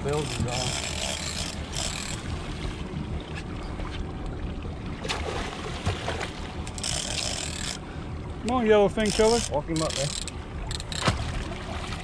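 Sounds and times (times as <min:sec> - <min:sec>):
boat engine rumble: 0:00.0 - 0:12.0
water noise: 0:00.0 - 0:12.0
wind: 0:00.0 - 0:12.0.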